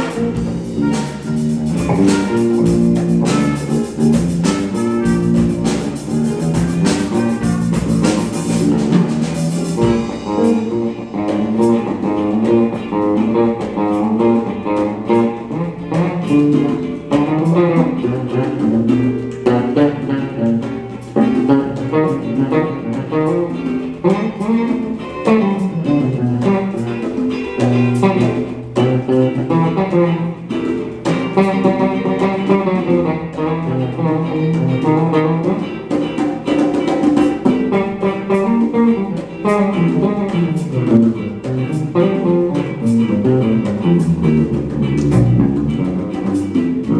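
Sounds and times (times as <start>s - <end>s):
electric bass line: 0.0s - 46.9s
electric guitar: 0.0s - 46.9s
full band with cymbals: 0.0s - 46.9s
light percussion: 0.0s - 46.9s.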